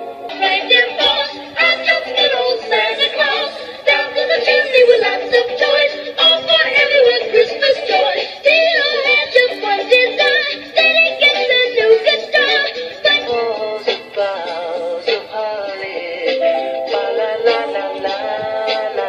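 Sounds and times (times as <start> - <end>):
christmas music from jukebox: 0.0 - 19.0.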